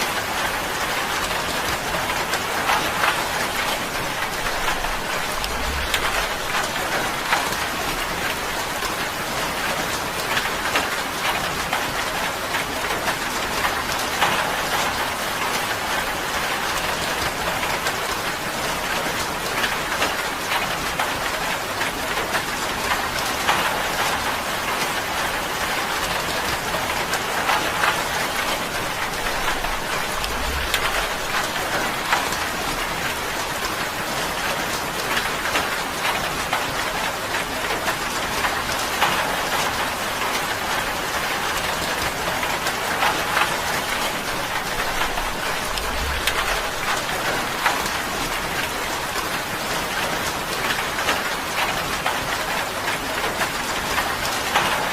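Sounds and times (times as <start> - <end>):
rain drumming on a tin roof: 0.0 - 54.9.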